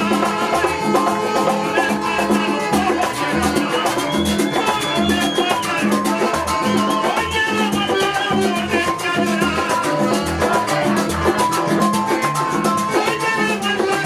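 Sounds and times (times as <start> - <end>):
latin dance music with drums: 0.0 - 14.0.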